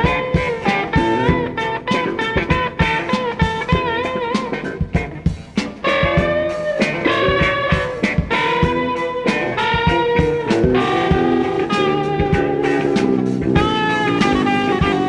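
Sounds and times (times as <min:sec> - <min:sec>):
bass guitar: 0:00.0 - 0:15.0
drums: 0:00.0 - 0:15.0
lead guitar bending notes: 0:00.0 - 0:15.0.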